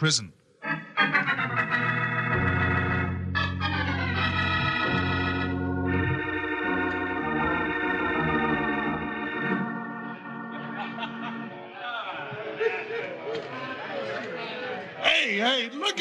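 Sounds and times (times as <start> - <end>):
organ chords: 0.0 - 13.2.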